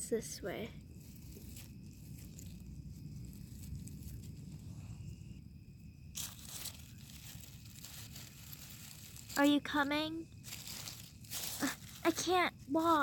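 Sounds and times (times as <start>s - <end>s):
faint low rumble and hiss: 0.0s - 13.0s
rustling noise: 0.8s - 5.4s, 6.1s - 13.0s.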